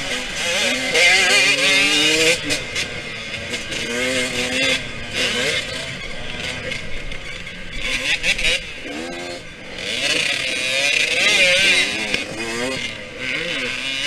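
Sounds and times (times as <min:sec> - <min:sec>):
two-stroke dirt bike engine: 0:00.0 - 0:14.0.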